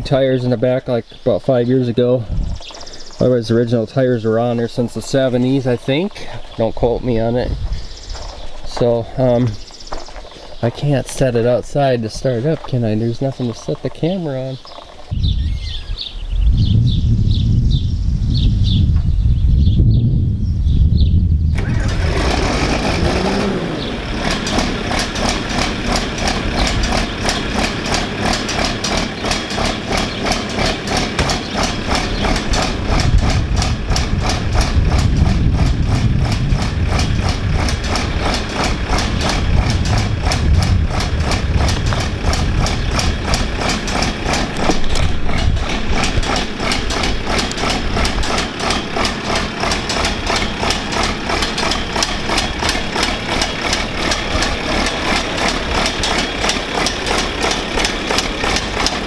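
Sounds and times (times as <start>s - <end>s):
tractor diesel engine idling: 0.0s - 15.8s, 21.6s - 59.0s.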